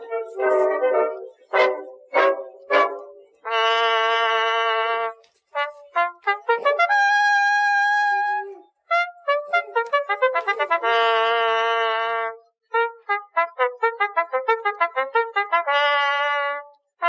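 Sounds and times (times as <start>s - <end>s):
trumpet playing a tune: 0.0s - 16.8s.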